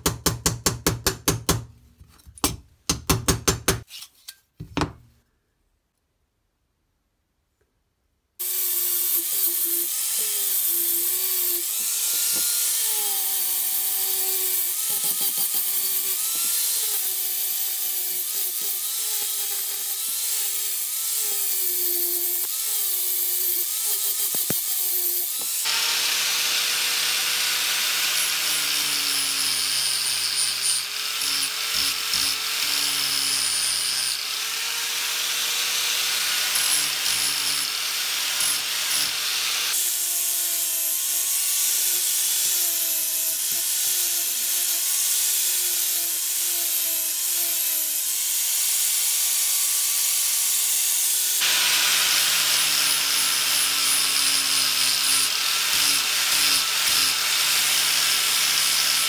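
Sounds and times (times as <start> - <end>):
angle grinder grinding metal: 8.4 - 59.0.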